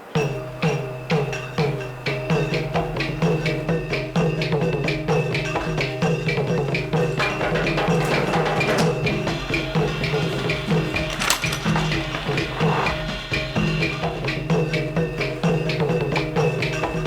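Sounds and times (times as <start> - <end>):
woody percussive knocks: 0.2 - 17.0.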